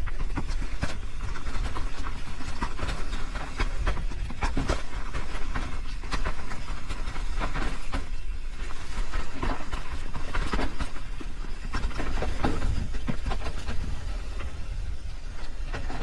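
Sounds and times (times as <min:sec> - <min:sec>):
bike rattling and clacking: 0:00.0 - 0:16.0
tyres rolling over rough ground: 0:00.0 - 0:16.0.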